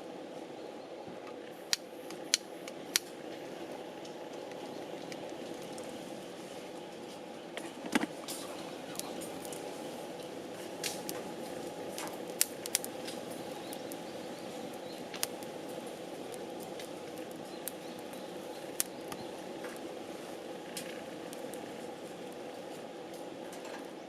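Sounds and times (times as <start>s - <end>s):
firewood crackling and popping: 1.2s - 24.0s.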